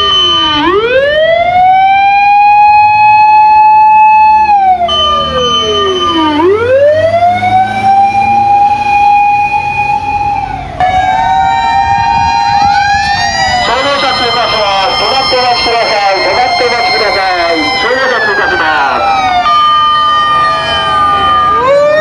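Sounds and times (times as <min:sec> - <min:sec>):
mechanical siren wailing: 0:00.0 - 0:22.0
second siren: 0:00.0 - 0:22.0
truck engine rumble: 0:00.0 - 0:22.0.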